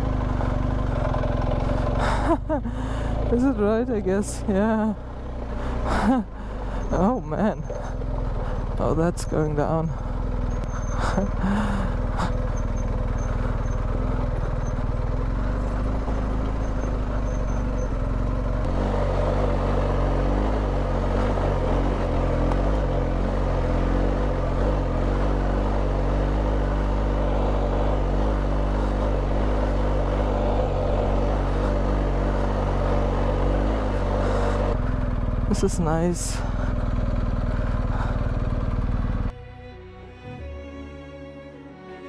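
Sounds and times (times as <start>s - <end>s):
motorcycle engine at low revs: 0.0s - 39.4s.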